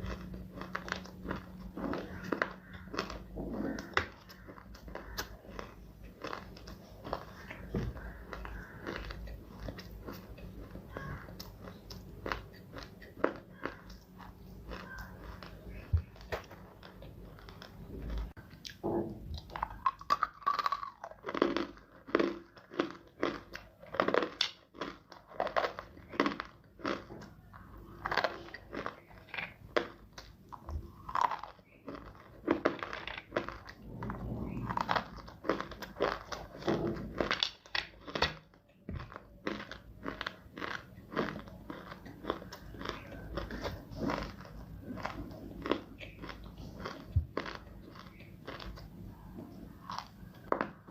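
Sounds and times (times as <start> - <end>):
clay chunks crunched by chewing: 0.0 - 50.9.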